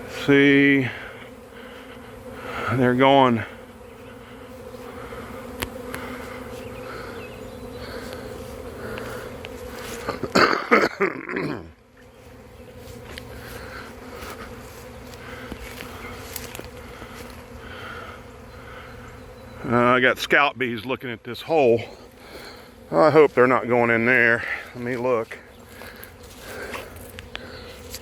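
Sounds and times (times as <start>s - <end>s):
bee buzzing close by: 0.0s - 28.0s
bee swarm buzzing: 0.0s - 28.0s.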